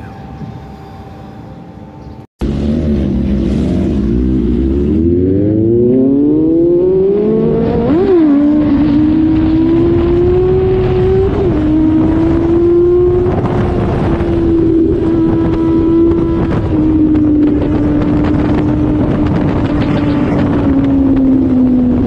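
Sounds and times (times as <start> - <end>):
motorcycle engine revving: 2.4 - 22.0.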